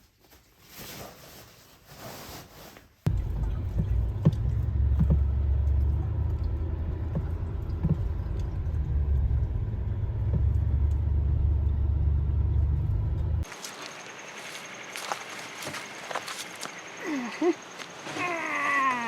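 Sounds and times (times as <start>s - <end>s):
truck driving: 3.1s - 19.0s.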